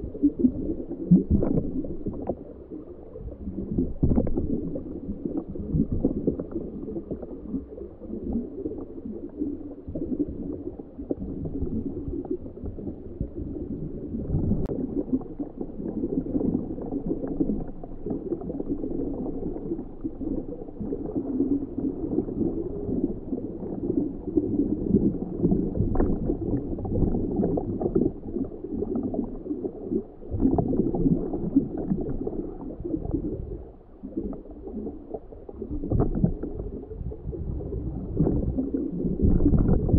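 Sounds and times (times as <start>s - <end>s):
muffled underwater gurgling: 0.0s - 39.9s.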